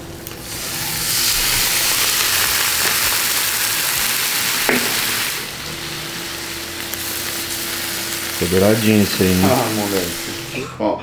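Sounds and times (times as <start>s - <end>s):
meat sizzling in a pan: 0.4s - 10.6s.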